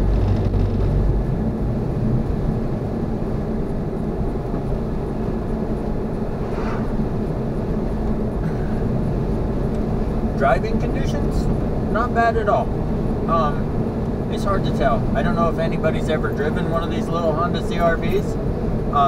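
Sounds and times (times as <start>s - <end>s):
road and engine noise in car cabin: 0.0s - 19.0s.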